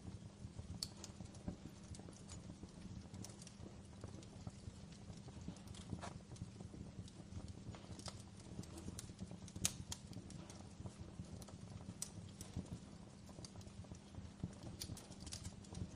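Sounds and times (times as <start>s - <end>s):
fire flames rumbling: 0.0s - 15.9s
fire pops and snaps: 0.0s - 15.9s.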